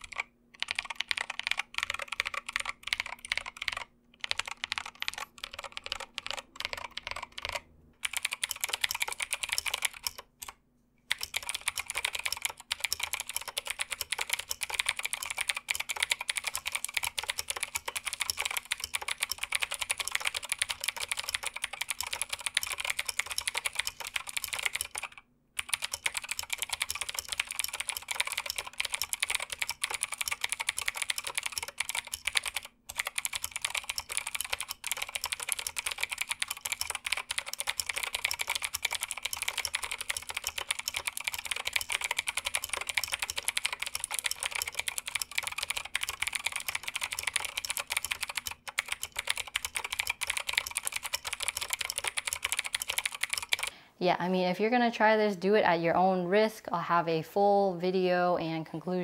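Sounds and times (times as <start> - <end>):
clicky mechanical keyboard typing: 0.0 - 53.8.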